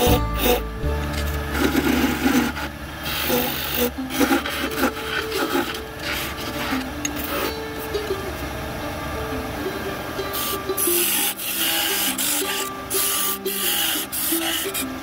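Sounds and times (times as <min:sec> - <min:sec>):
chisel scraping wood: 0:00.0 - 0:07.6, 0:10.4 - 0:14.8
lathe humming: 0:00.0 - 0:15.0.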